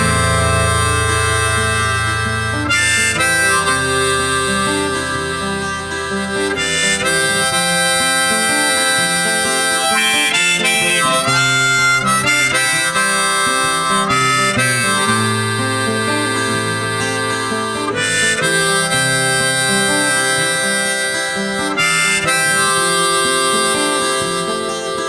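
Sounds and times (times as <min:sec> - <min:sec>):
guitar and bass: 0:00.0 - 0:25.0
harmonica solo: 0:00.0 - 0:25.0.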